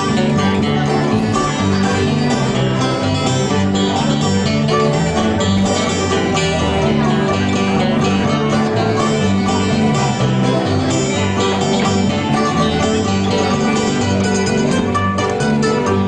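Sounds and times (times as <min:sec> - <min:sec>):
live band with plucked strings: 0:00.0 - 0:16.0.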